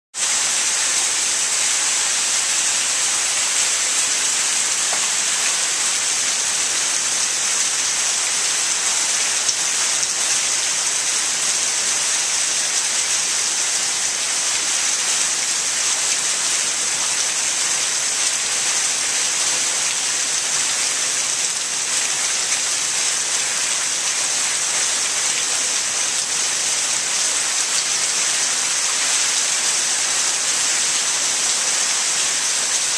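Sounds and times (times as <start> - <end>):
heavy rain on pavement: 0.2 - 32.9.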